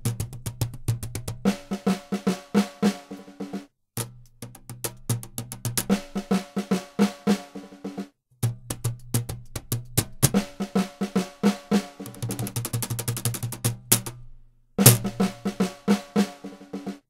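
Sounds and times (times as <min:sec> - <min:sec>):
snare drum played with sticks: 0:00.0 - 0:17.0.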